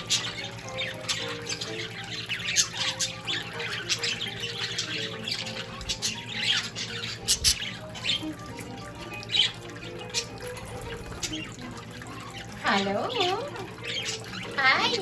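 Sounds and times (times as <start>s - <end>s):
budgerigar squawks: 0.0s - 15.0s
budgerigars chattering and chirping: 0.0s - 15.0s.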